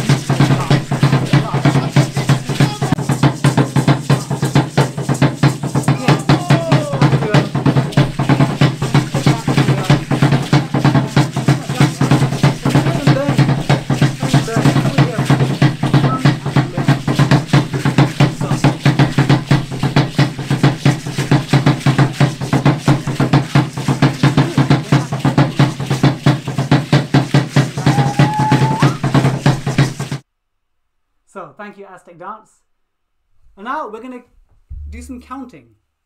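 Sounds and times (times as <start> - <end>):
large drum beaten fast: 0.0 - 30.2, 34.7 - 35.3.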